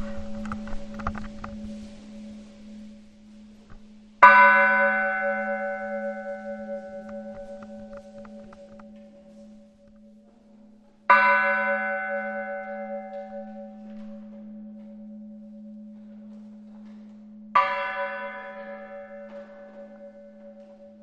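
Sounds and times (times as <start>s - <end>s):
steady low hum: 0.0s - 11.2s, 11.8s - 21.0s
church bell ringing: 0.0s - 21.0s.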